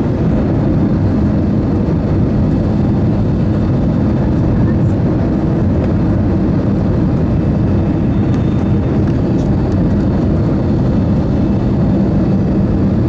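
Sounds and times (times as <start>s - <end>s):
airplane engines rumbling: 0.0s - 13.0s.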